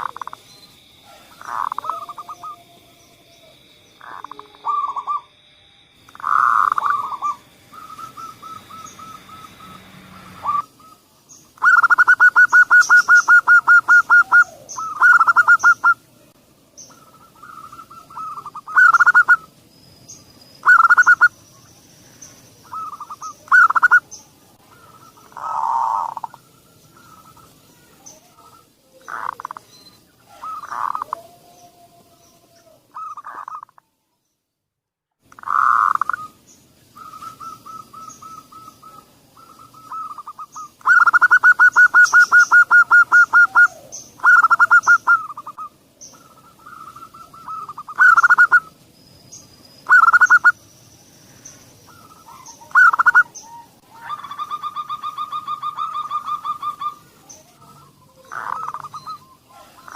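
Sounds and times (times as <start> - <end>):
dove cooing: 0.0 - 0.4, 1.0 - 2.8, 3.4 - 5.3, 6.1 - 16.0, 16.9 - 19.5, 20.6 - 21.4, 22.6 - 33.8, 35.4 - 48.8, 49.9 - 50.6, 51.9 - 59.9.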